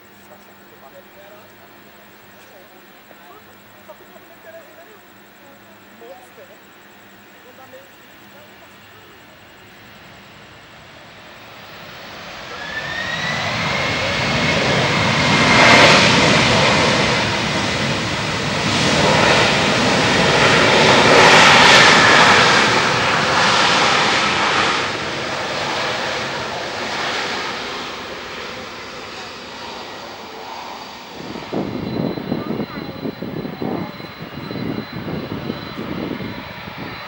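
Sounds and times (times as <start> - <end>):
jet engines roaring and whining: 0.0 - 37.0.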